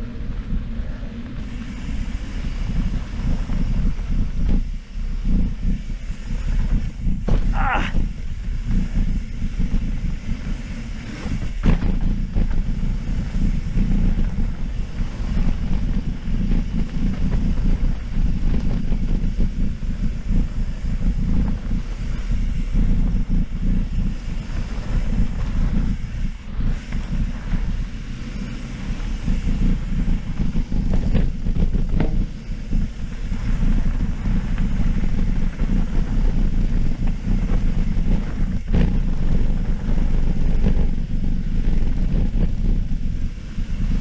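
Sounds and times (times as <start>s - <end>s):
bike rattling over rough ground: 0.0s - 44.0s
wind buffeting microphone: 0.0s - 44.0s.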